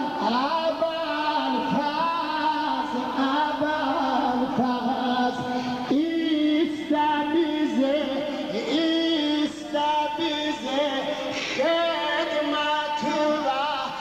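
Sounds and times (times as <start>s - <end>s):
person singing ornamented melody: 0.0s - 14.0s.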